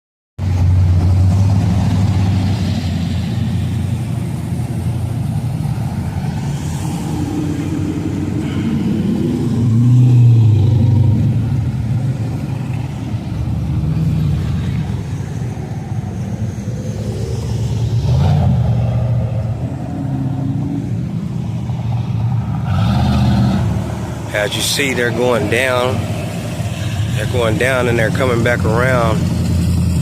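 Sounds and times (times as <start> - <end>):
cars driving past: 0.4 - 30.0.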